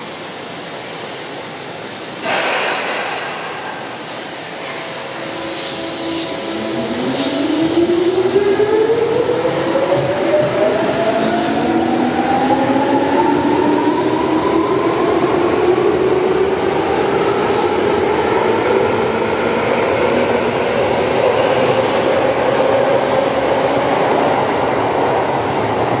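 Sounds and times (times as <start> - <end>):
train wheels running on rails: 0.0 - 26.0.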